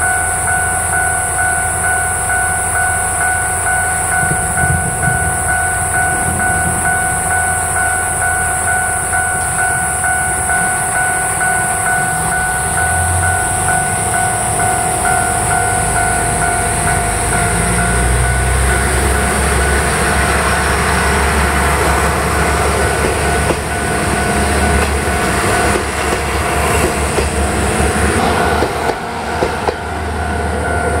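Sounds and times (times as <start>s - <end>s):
diesel railcar engine: 0.0s - 31.0s.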